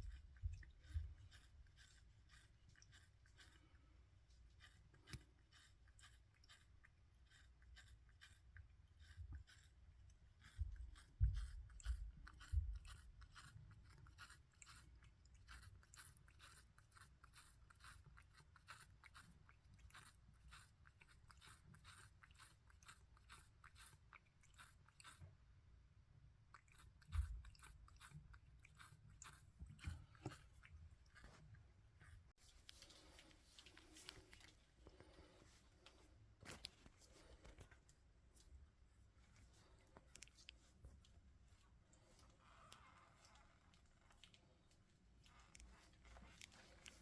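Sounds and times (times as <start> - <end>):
pet crunching a treat: 0.0 - 25.3, 26.5 - 38.6, 39.3 - 41.2, 43.3 - 47.0.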